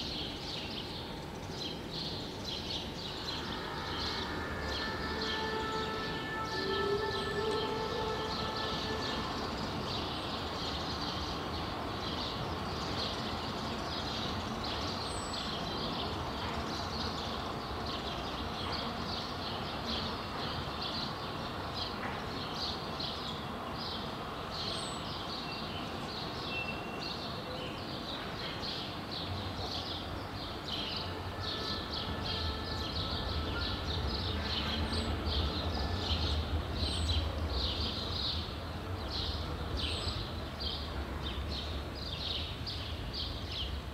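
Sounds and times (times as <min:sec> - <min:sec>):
birds chirping: 0:00.2 - 0:43.8.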